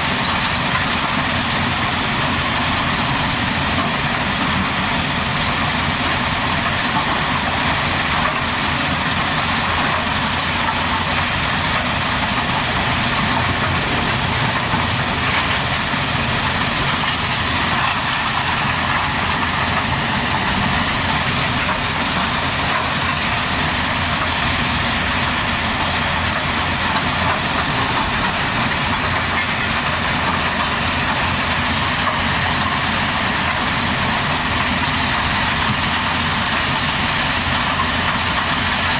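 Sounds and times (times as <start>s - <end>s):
construction machine engine running: 0.0s - 38.9s.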